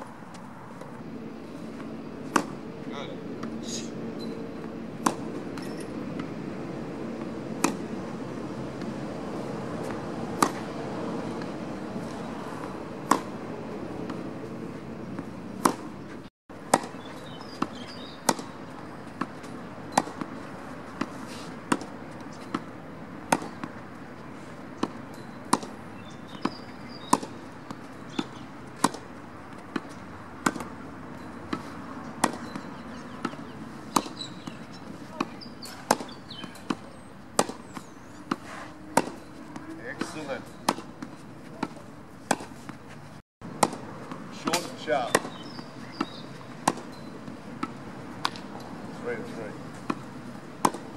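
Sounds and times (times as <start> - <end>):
tennis racket hitting ball: 1.7 - 2.6, 4.6 - 42.8, 43.5 - 50.9.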